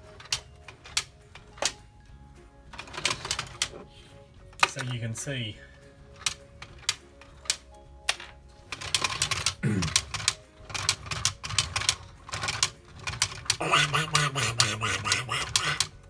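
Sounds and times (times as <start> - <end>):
plastic toy parts clicking and clacking: 0.0 - 1.8, 2.7 - 3.9, 6.1 - 16.0.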